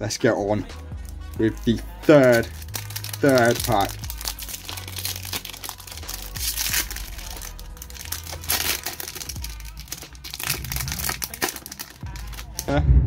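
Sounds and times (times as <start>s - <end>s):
foil wrapper crinkling: 1.0s - 12.7s.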